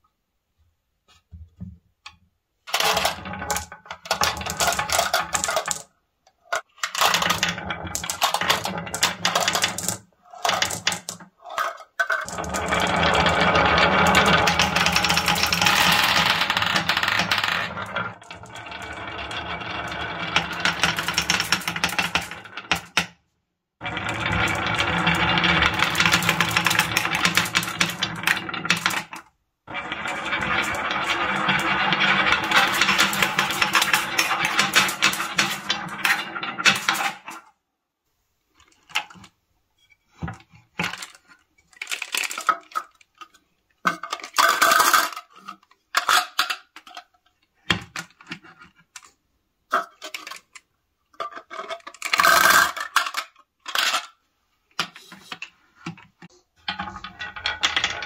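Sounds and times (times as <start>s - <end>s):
marbles rolling and clacking on wood: 2.7s - 23.2s, 23.8s - 37.6s, 38.6s - 58.0s.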